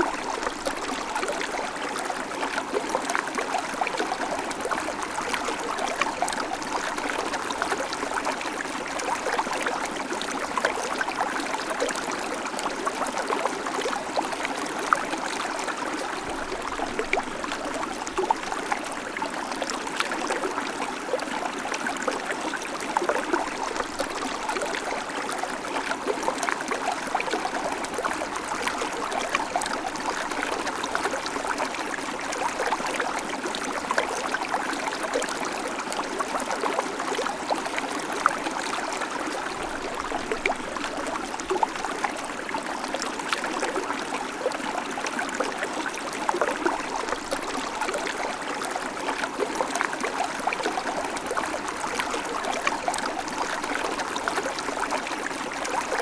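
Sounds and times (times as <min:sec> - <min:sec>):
creek babbling over stones: 0:00.0 - 0:56.0.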